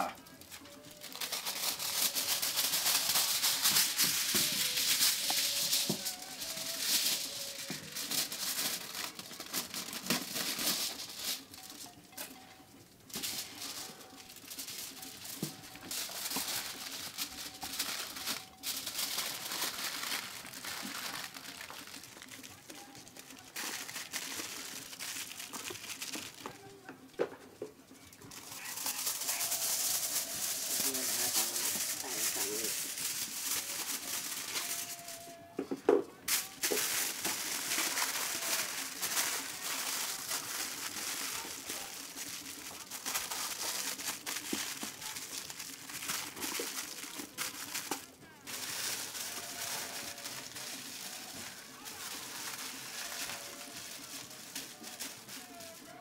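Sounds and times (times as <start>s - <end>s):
aluminium foil crinkling: 0.0s - 56.0s.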